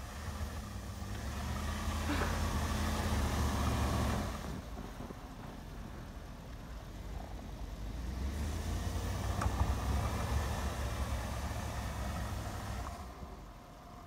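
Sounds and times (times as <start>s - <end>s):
truck engine under load: 0.0s - 14.0s.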